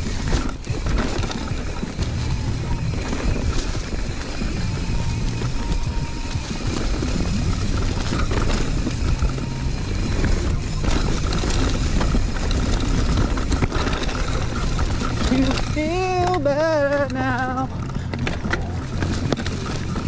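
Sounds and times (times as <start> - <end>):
bike knocking over bumps: 0.0 - 20.0
tyres rolling over dirt and leaves: 0.0 - 20.0.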